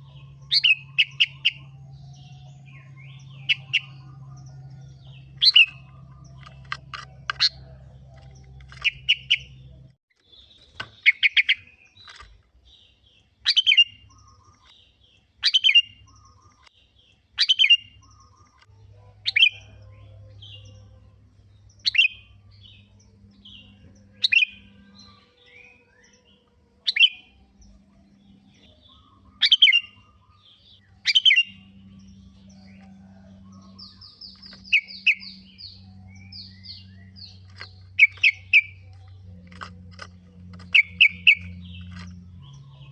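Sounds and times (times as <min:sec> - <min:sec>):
bird twittering: 0:00.0 - 0:42.9.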